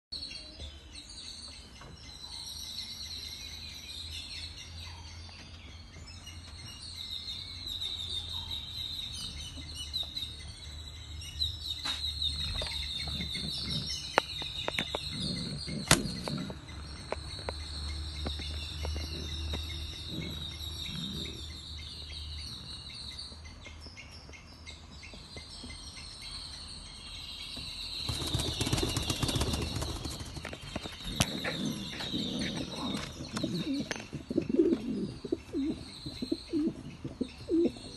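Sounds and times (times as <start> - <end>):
small birds twittering: 0.2 - 37.9.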